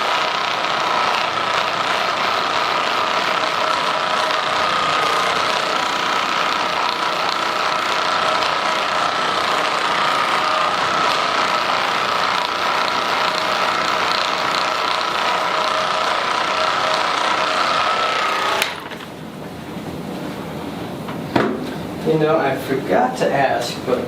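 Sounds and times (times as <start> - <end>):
massage gun whining: 0.0 - 19.4.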